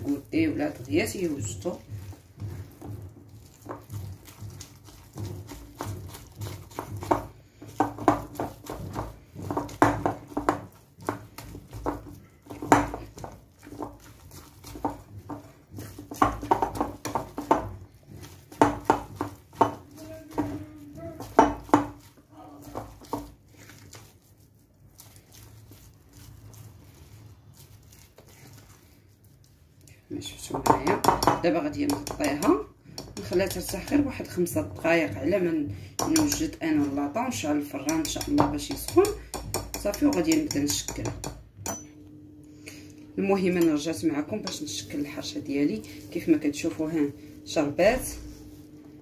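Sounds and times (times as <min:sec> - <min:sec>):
hand squishing wet dough: 0:00.0 - 0:41.6, 0:42.6 - 0:49.0.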